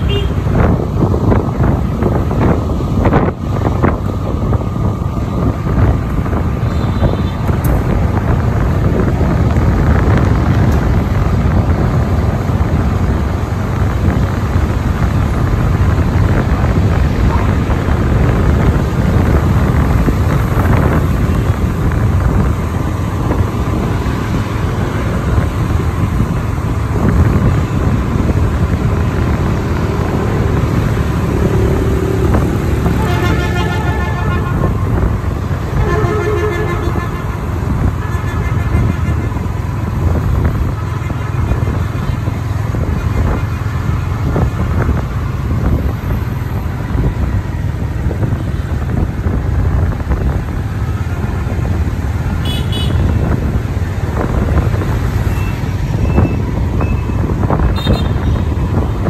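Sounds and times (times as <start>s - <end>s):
road vehicle rumble: 0.0s - 59.0s
wind buffeting microphone: 0.0s - 59.0s.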